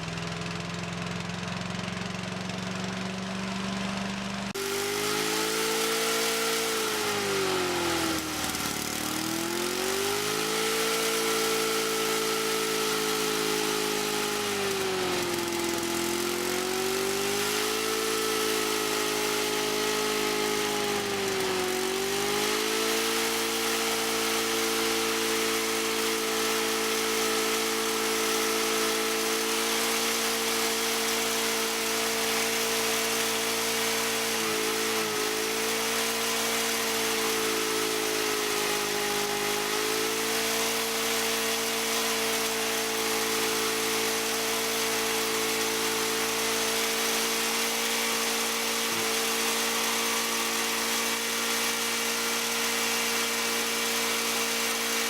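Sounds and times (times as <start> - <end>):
wood chipper engine running: 0.0 - 55.0.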